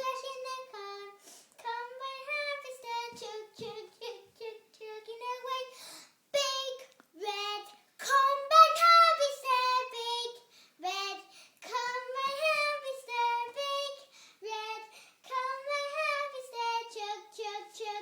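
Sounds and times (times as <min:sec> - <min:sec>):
child singing unaccompanied: 0:00.0 - 0:18.0.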